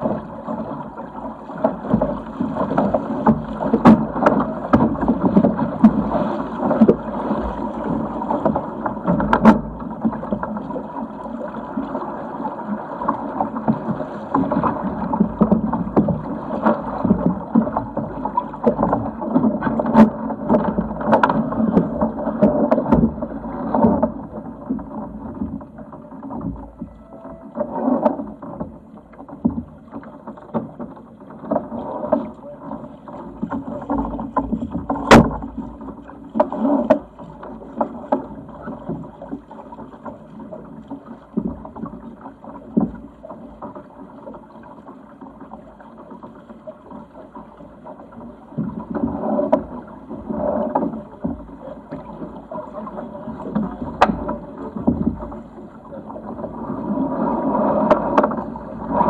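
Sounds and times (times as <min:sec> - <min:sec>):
wind and water rushing: 0:00.0 - 0:59.0.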